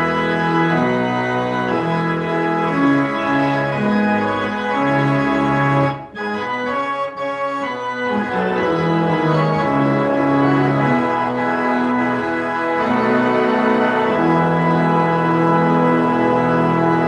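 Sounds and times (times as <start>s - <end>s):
organ playing sustained chords: 0.0s - 17.0s.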